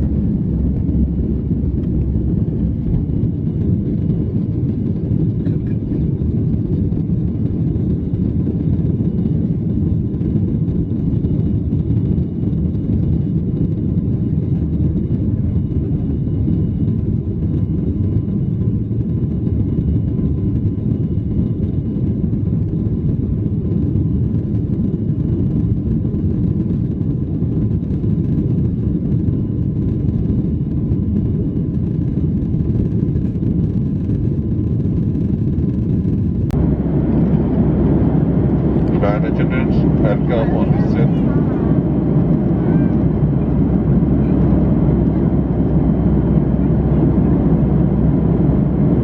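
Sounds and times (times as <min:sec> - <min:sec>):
jet engine rumble in cabin: 0:00.0 - 0:49.0.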